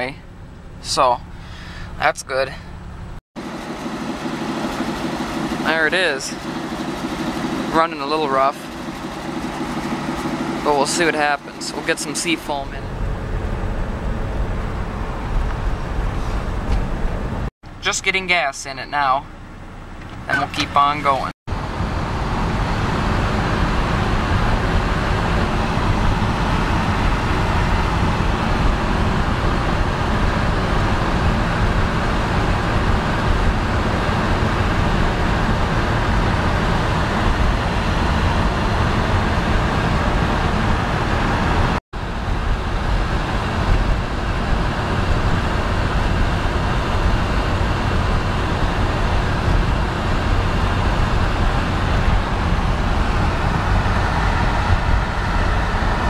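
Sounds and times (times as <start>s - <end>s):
car engine droning: 0.0s - 56.0s
road and wind noise: 0.0s - 56.0s.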